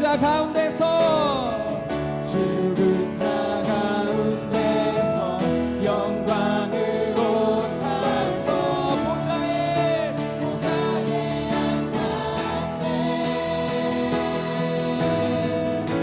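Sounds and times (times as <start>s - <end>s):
guitar: 0.0s - 16.0s
voices singing: 0.0s - 16.0s.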